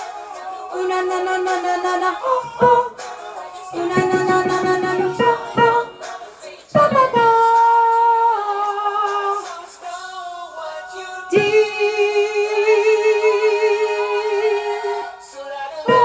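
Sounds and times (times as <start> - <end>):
woman singing with vibrato: 0.0 - 10.0, 10.6 - 16.0.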